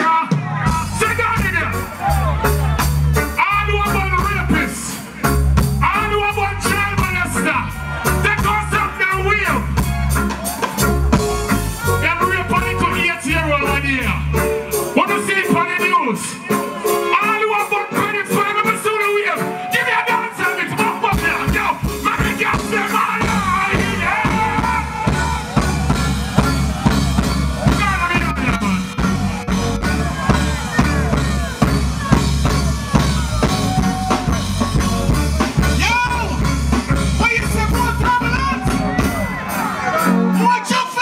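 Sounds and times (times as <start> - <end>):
reggae band playing: 0.0 - 41.0
deep bass line: 0.4 - 18.6, 20.7 - 40.4.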